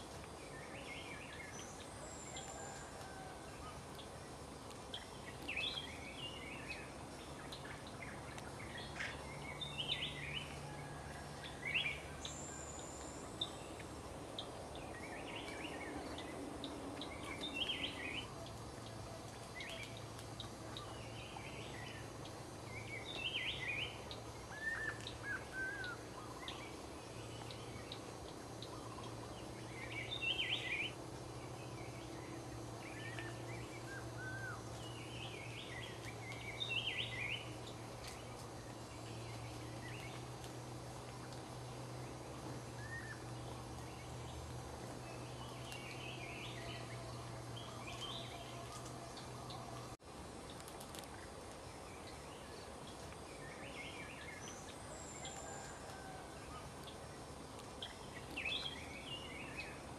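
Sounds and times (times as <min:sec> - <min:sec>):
falling bird calls: 0:00.0 - 0:59.9
low steady hum: 0:00.0 - 0:59.9
small birds chirping: 0:00.0 - 0:59.9.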